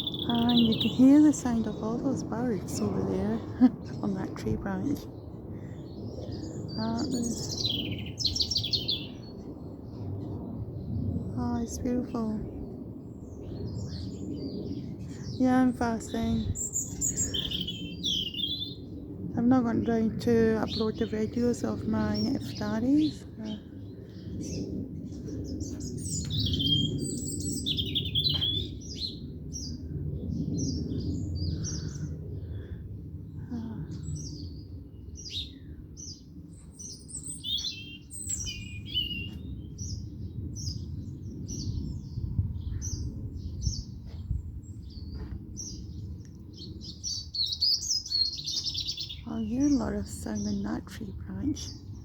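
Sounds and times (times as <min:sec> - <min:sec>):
small birds chirping and twittering: 0:00.0 - 0:52.0
steady low rumble: 0:00.0 - 0:52.0.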